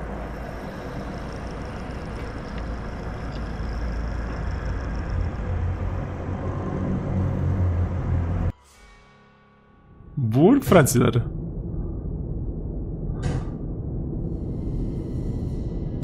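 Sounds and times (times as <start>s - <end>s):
low rumbling drone: 0.0s - 8.6s, 9.9s - 16.0s.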